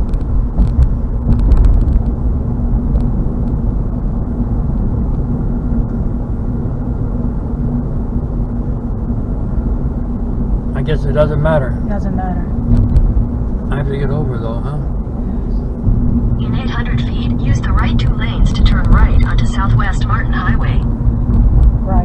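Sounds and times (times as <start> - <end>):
faint constant hum: 0.0 - 22.0
tyre and engine rumble in car: 0.0 - 22.0.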